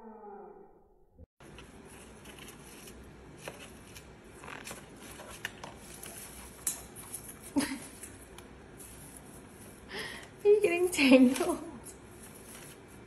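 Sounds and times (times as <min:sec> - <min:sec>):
parrots rustling shredded paper: 0:01.4 - 0:13.0.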